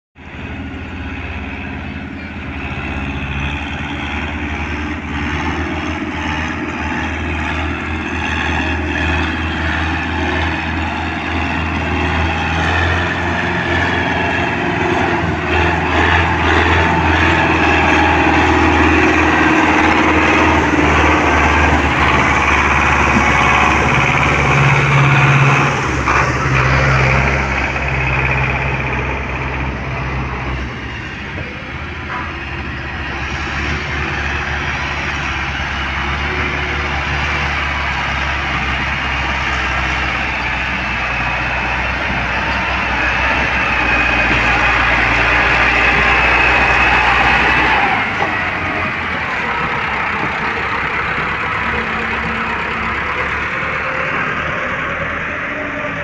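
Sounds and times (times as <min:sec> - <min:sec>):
diesel tractor engine under load: 0:00.2 - 0:56.0.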